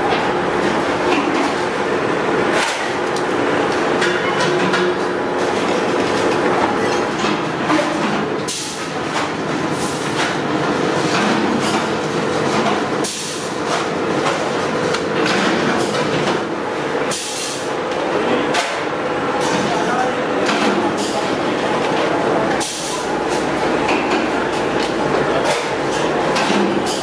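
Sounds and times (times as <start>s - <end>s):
steady motor hum: 0.0s - 27.0s.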